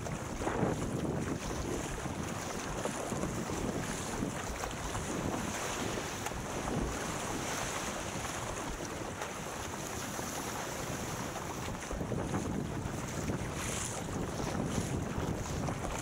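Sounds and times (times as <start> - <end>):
paddle blades dipping: 0.0 - 16.0
water rushing and splashing: 0.0 - 16.0
wind buffeting microphone: 0.0 - 16.0.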